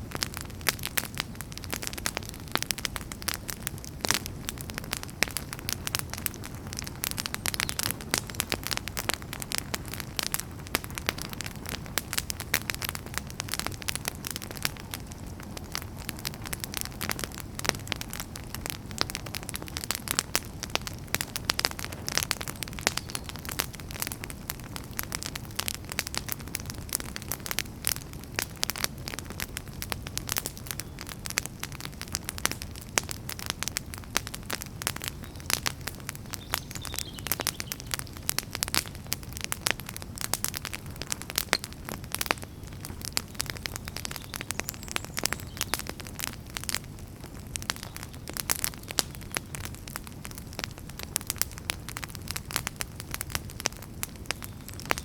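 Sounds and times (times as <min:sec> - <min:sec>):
low rumble of burning: 0:00.0 - 0:55.0
wood fire crackling: 0:00.0 - 0:55.0.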